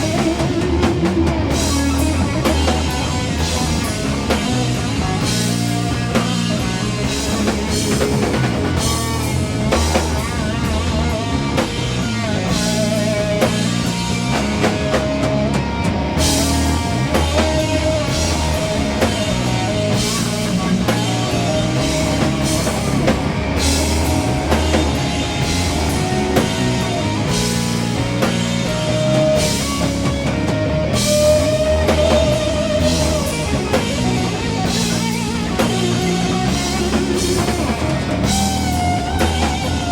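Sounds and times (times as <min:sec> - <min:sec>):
bass guitar: 0:00.0 - 0:39.9
distorted electric guitars: 0:00.0 - 0:39.9
drum kit with cymbal crashes: 0:00.0 - 0:39.9
lead guitar held notes with vibrato: 0:00.0 - 0:39.9.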